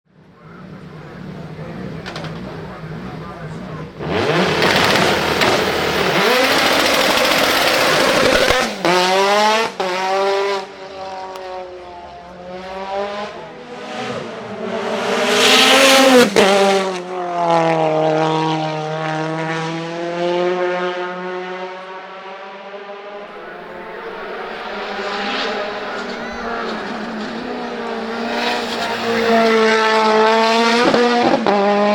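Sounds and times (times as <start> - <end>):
car engine revving at full throttle: 0.6 - 22.5, 23.3 - 31.9.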